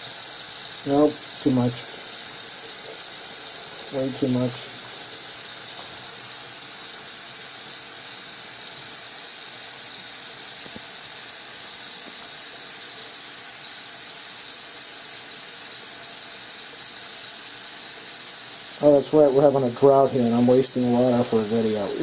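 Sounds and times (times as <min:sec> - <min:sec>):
faucet water pouring into sink: 0:00.0 - 0:22.0.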